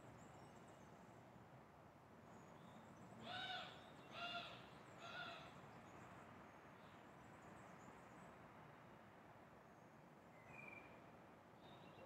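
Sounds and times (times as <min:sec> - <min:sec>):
low hum of city noise: 0:00.0 - 0:12.0.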